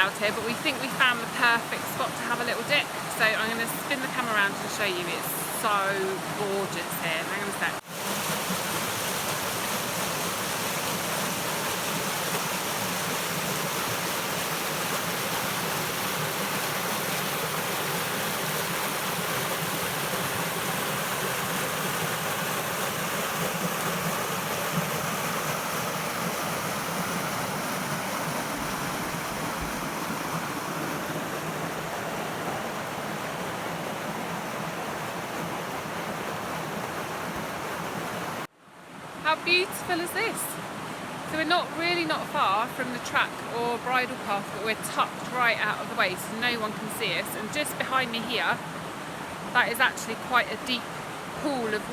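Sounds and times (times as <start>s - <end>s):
river rushing over rocks: 0.0s - 51.9s.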